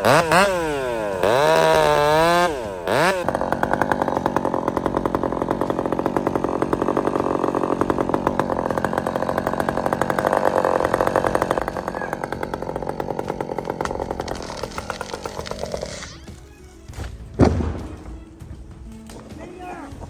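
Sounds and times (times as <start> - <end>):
chainsaw running: 0.0 - 20.0.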